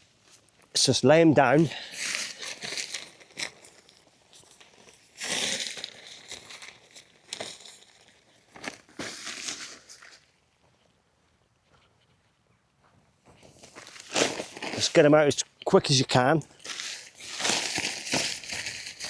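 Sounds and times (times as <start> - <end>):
tarp rustling and crinkling: 0.0 - 10.3, 13.3 - 19.0.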